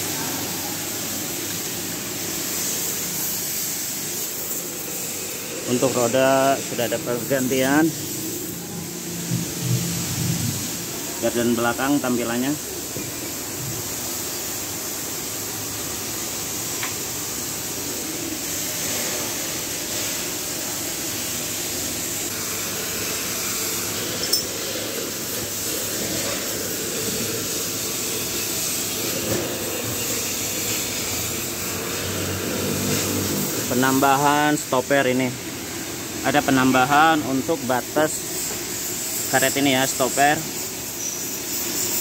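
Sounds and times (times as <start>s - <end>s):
even hiss: 0.0s - 42.0s.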